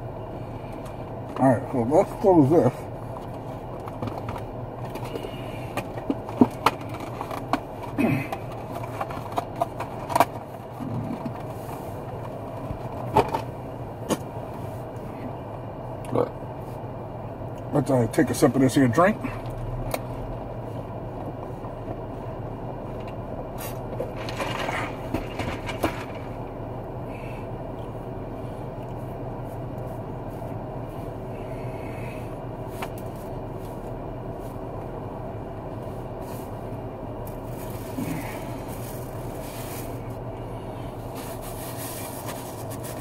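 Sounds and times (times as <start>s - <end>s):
low hum inside car: 0.0s - 43.0s.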